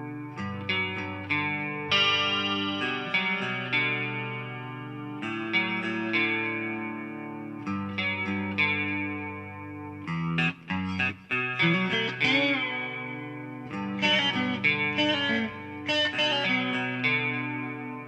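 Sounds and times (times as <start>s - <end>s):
electric guitar picking notes: 0.0s - 18.0s.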